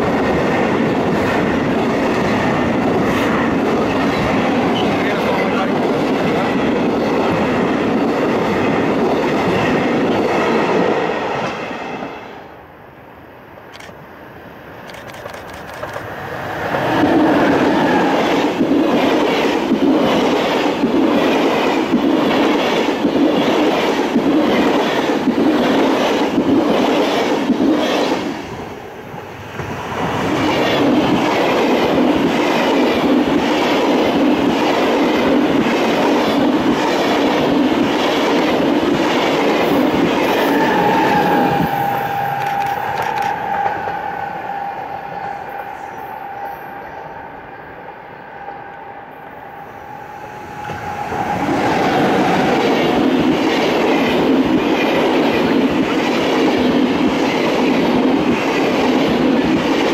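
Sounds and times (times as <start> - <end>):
trains clickety-clack over rail joints: 0.0 - 12.6, 13.5 - 59.9
electric locomotive whine: 0.0 - 59.9.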